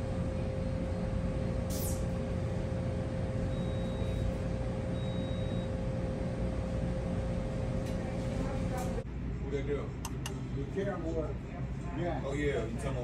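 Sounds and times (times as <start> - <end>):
machine hum and rumble: 0.0 - 12.8.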